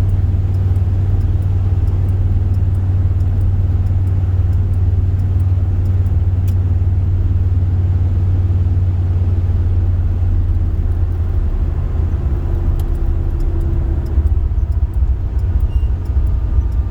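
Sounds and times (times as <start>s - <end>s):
car engine and road rumble: 0.0s - 16.9s.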